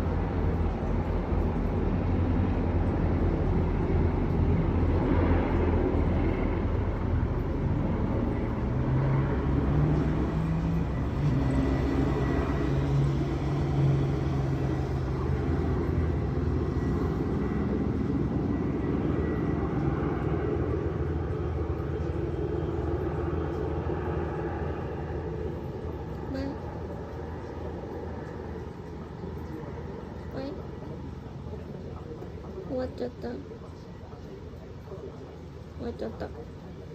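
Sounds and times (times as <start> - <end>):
aircraft flying overhead: 0.0 - 36.9.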